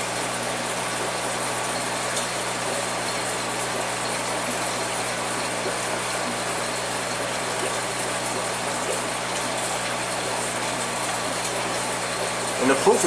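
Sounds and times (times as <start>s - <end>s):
bubbling water: 0.0s - 13.0s
pump hum: 0.0s - 13.0s.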